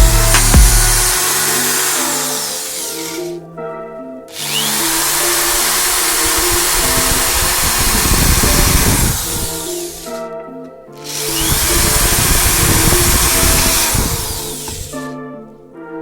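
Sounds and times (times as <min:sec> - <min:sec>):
power tool running: 0:00.0 - 0:03.3, 0:04.3 - 0:10.2, 0:11.1 - 0:15.0
background music: 0:00.0 - 0:16.0.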